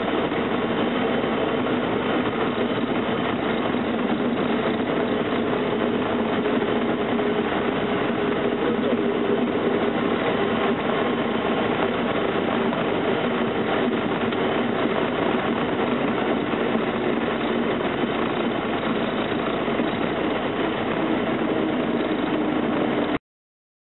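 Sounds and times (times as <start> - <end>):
aircraft engine and propeller drone: 0.0 - 23.2.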